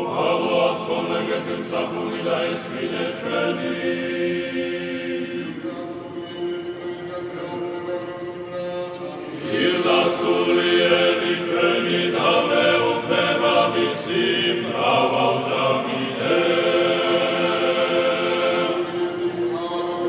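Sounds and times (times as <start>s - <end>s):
male choir chanting: 0.0s - 20.0s.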